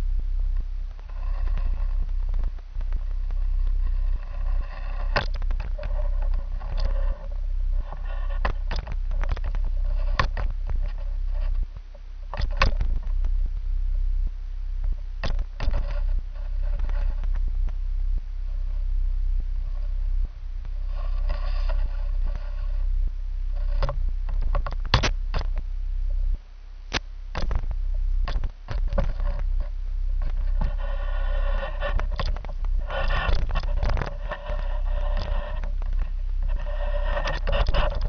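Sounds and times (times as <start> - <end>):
low handling rumble: 0.0 - 38.0.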